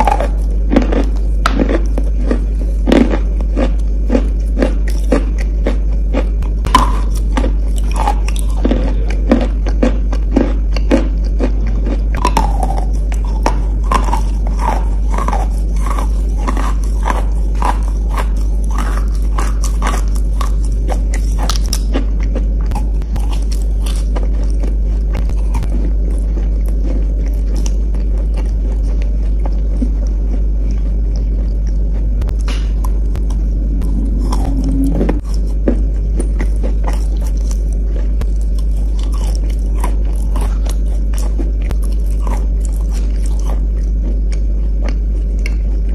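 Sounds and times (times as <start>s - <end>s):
chewing with moist crunches: 0.0s - 45.9s
steady low hum: 0.0s - 45.9s.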